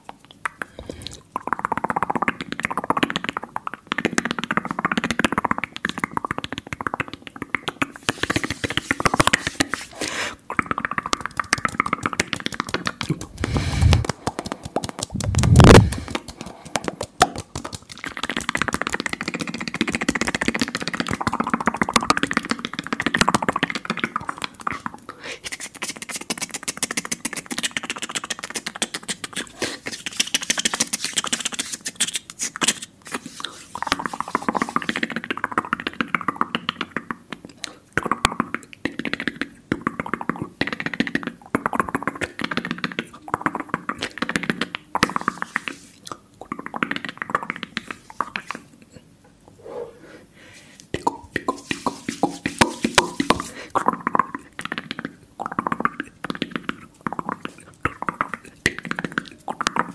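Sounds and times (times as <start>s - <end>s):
fast mouth clicks and pops: 0.0s - 48.9s, 50.8s - 59.9s.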